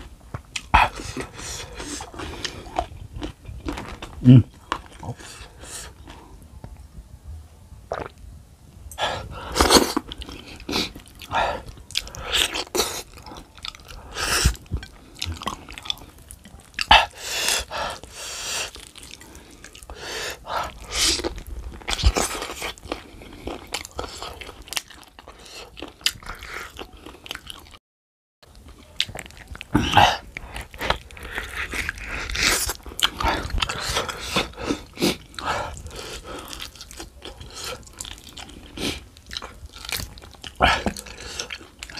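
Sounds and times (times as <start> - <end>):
biting and chewing meat: 0.0 - 6.2, 9.2 - 27.8, 28.4 - 41.9.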